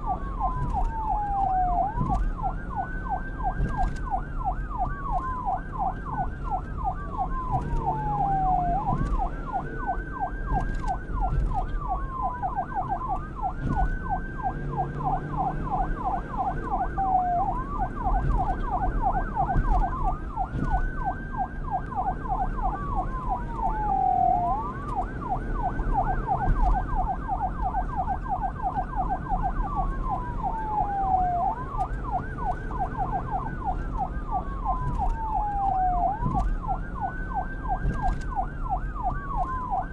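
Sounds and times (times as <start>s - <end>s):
police siren: 0.0s - 39.9s.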